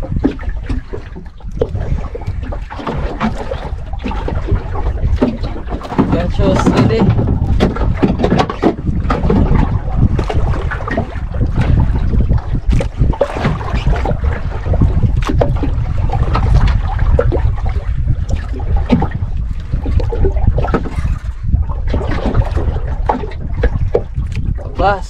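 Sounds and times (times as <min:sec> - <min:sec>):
water sloshing: 0:00.0 - 0:25.0
wind buffeting microphone: 0:00.0 - 0:25.0.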